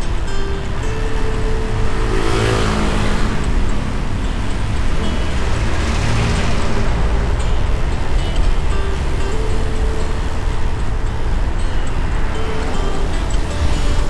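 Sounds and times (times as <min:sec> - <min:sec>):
motorbike engine and wind rumble: 0:00.0 - 0:14.0
vehicles passing: 0:00.0 - 0:14.0.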